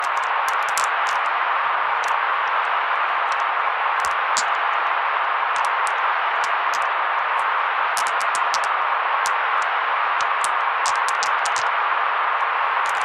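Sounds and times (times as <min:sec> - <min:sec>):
electronic noise hiss: 0:00.0 - 0:13.0.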